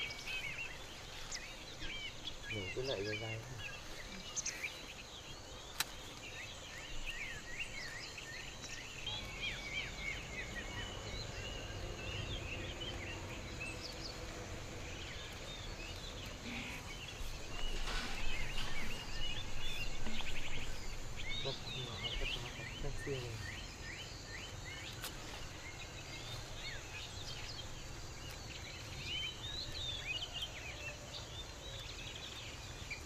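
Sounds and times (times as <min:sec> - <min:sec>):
small birds chirping: 0:00.0 - 0:33.0
steady background hiss: 0:00.0 - 0:33.0.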